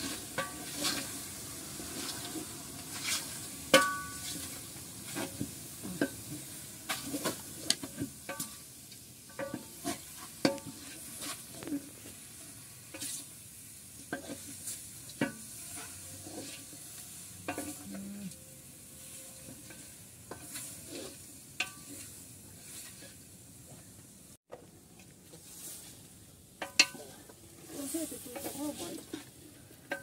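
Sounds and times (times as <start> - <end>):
utensil scraping a metal pan: 0.0 - 8.6, 9.3 - 12.2, 12.8 - 13.4, 14.0 - 23.3, 26.6 - 30.0
food sizzling in a pan: 0.0 - 24.4, 25.3 - 30.0.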